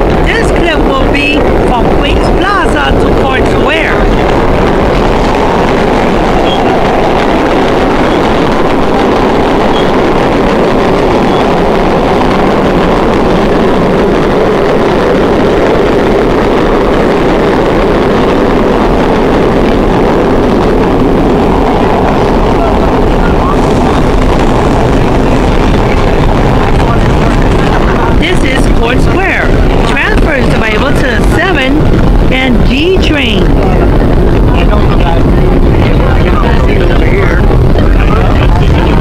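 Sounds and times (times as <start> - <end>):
subway train wheels rumbling: 0.0 - 39.0.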